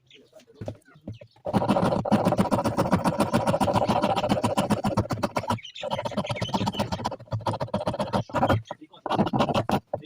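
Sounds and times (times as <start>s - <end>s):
rapid rhythmic scraping: 0.3s - 10.0s.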